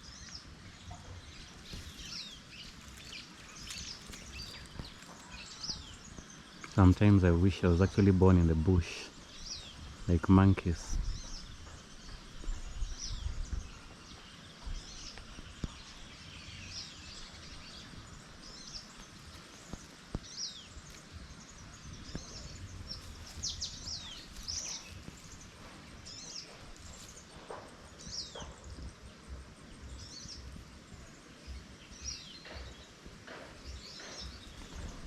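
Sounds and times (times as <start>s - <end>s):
low rumble of wind: 0.0s - 35.0s
wild birds chirping: 0.0s - 35.0s.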